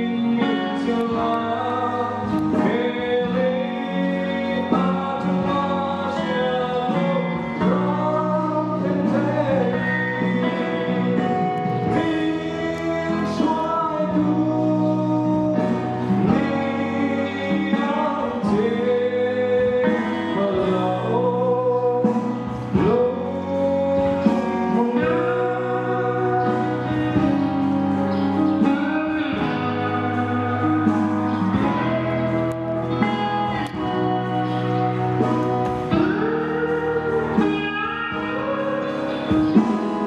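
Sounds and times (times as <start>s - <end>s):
instrumental accompaniment: 0.0s - 40.0s
man singing gospel: 0.0s - 40.0s.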